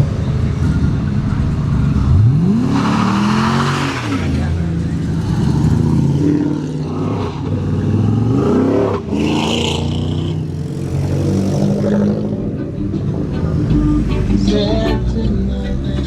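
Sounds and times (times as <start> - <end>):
car engine revving: 0.0 - 16.0
car engines running: 0.0 - 16.0.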